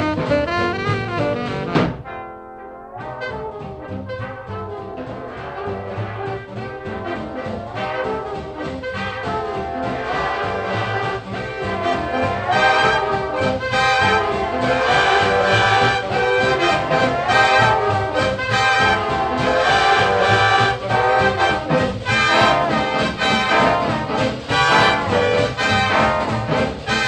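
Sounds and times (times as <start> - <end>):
big band brass music: 0.0 - 27.0.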